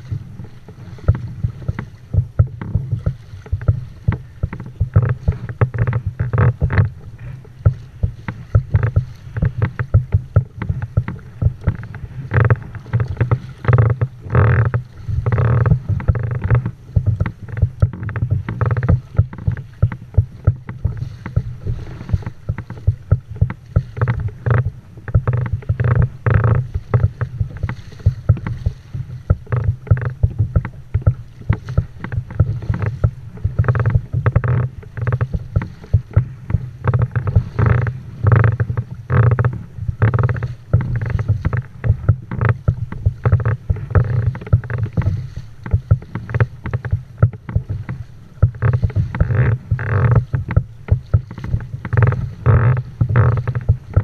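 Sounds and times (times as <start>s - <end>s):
low rumble: 0.0s - 54.0s
water slapping against kayak hull: 0.0s - 54.0s.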